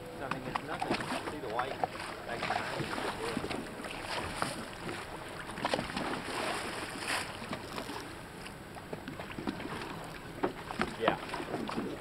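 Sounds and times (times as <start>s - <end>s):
water splashes: 0.0s - 12.0s
waves lapping against boat hull: 0.0s - 12.0s.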